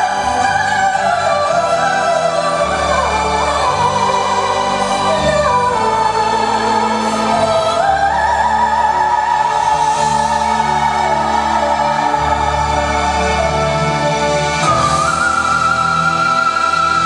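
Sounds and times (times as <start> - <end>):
orchestral and keyboard accompaniment: 0.0 - 17.0.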